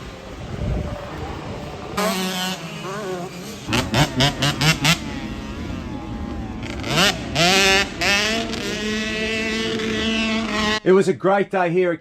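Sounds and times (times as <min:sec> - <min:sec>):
dirt bike engines revving: 0:00.0 - 0:10.9.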